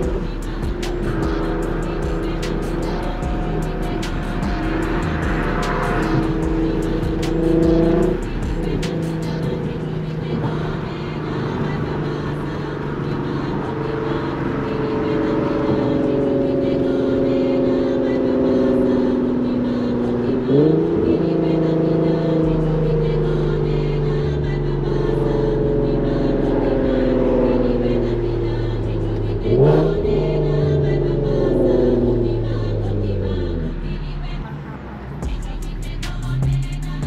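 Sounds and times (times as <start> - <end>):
music beat: 0.0 - 34.0, 35.1 - 37.0
car engine running: 0.0 - 37.0.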